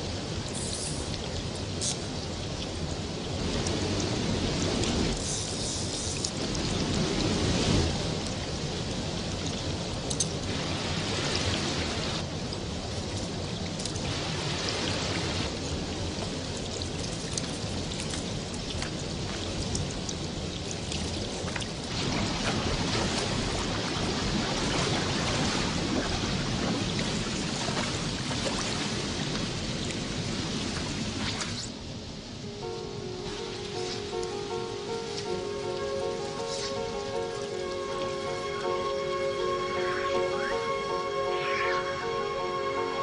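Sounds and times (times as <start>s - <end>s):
river rushing over boulders: 0.0s - 39.6s.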